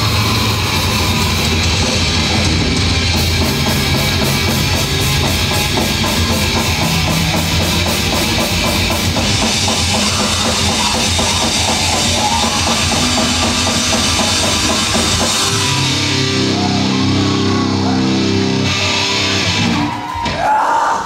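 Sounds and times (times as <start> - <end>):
fast drumming: 0.0 - 17.0
heavy metal band playing live: 0.0 - 21.0.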